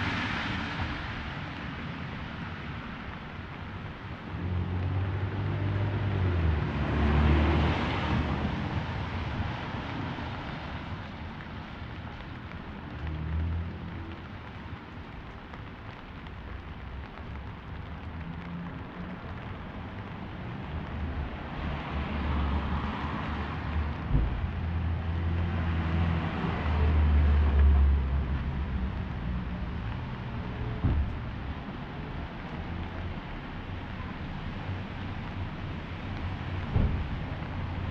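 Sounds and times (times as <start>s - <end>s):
low hum of vehicles: 0.0s - 37.9s
rain hissing: 0.0s - 37.9s
tyres on wet pavement: 0.0s - 37.9s.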